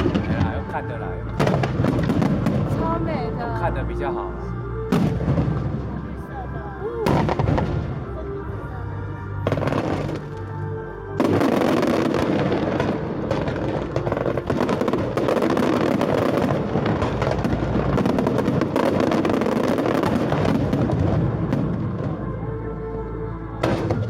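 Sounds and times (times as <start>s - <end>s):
fireworks crackling and banging: 0.0s - 4.0s, 4.9s - 8.2s, 9.4s - 10.6s, 11.2s - 22.2s, 23.6s - 24.0s.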